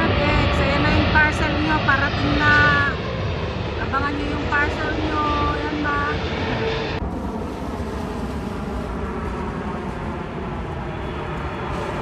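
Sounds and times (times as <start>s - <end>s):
jet airliner flying low: 0.0s - 12.0s.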